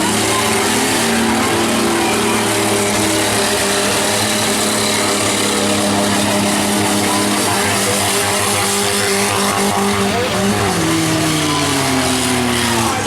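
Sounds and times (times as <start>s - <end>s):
truck engines running: 0.0s - 13.0s.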